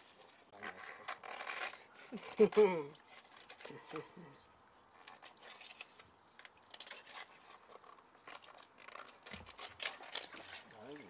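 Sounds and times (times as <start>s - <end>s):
crinkling and tearing of bamboo sheaths: 0.0s - 11.0s.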